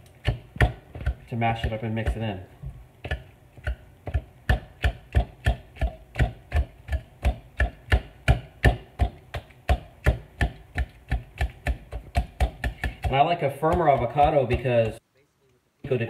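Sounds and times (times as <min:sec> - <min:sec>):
whisk knocking in bowl: 0:00.2 - 0:02.4, 0:03.0 - 0:15.0.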